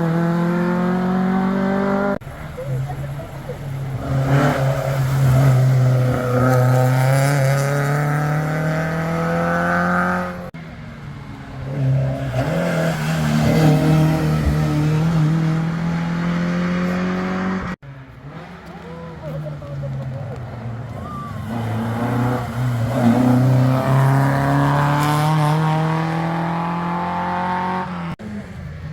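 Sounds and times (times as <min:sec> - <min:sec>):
rally car engines revving: 0:00.0 - 0:28.9.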